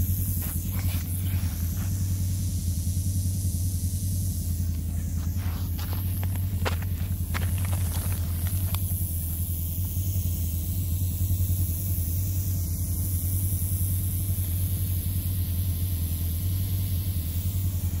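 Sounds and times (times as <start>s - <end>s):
low pulsing engine rumble: 0.0s - 18.0s.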